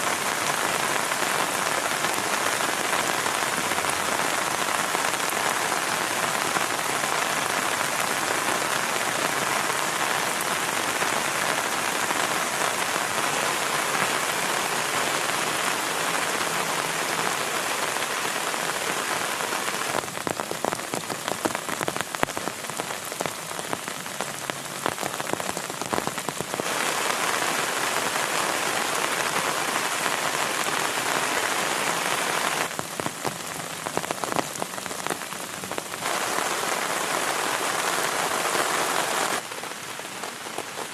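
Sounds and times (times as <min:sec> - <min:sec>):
heavy rain falling: 0:00.0 - 0:40.9
raindrops pattering: 0:00.0 - 0:40.9.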